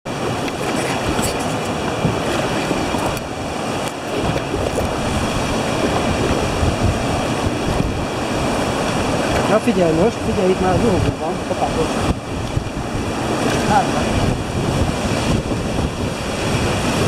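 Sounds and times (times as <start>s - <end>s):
river water rushing: 0.1s - 17.0s
wind buffeting microphone: 0.1s - 17.0s.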